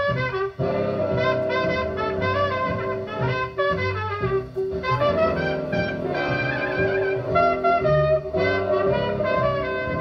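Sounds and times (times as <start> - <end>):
recorded music over loudspeakers: 0.0 - 10.0.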